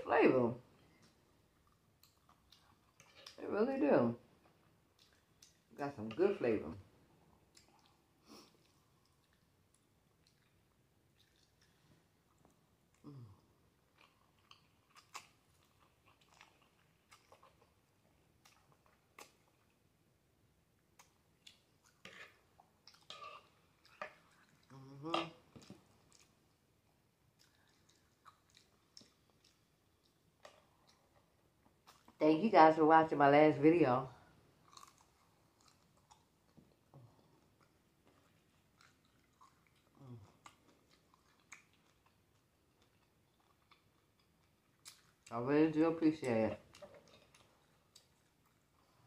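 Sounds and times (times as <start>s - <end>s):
wet chewing and lip smacking: 0.9s - 3.4s, 4.5s - 5.7s, 7.4s - 13.2s, 13.8s - 19.8s, 20.8s - 32.2s, 34.6s - 45.3s, 46.6s - 49.0s.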